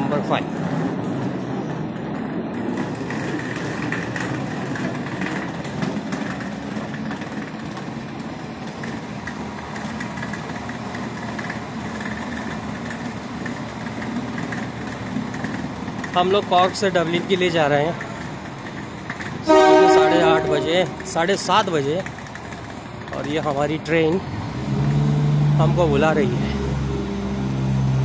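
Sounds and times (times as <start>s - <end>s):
suitcase rolling on concrete: 0.0s - 26.7s.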